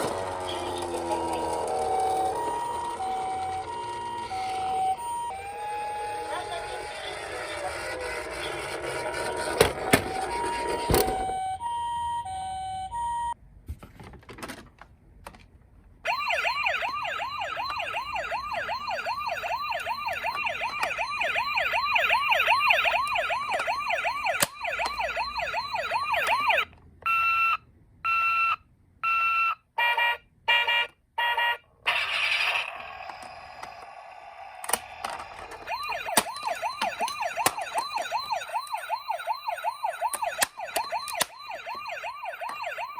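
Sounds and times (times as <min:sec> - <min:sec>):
toy ambulance sirens: 0:00.0 - 0:13.4, 0:16.0 - 0:42.9.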